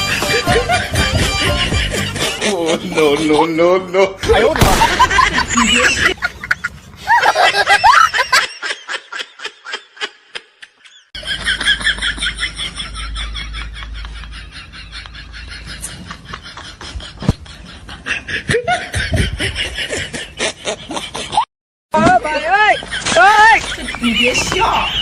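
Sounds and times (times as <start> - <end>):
rhythmic laughter: 0.0 - 21.5, 22.8 - 25.0.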